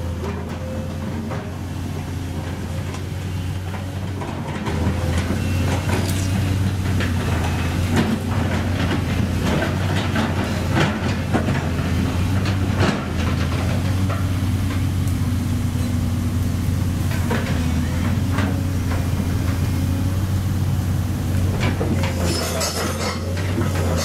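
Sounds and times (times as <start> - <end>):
bucket and tracks clanking: 0.0 - 24.0
excavator diesel engine running: 0.0 - 24.0.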